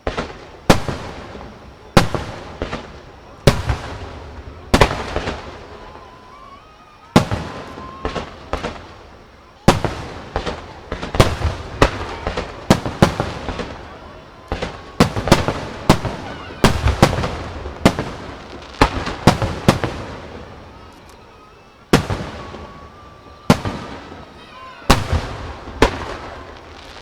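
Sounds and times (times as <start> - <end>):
fireworks bangs with echo: 0.0 - 27.0.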